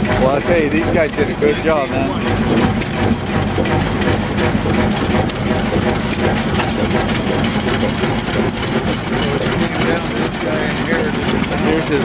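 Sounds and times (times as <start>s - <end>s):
stationary engine running: 0.0s - 12.0s.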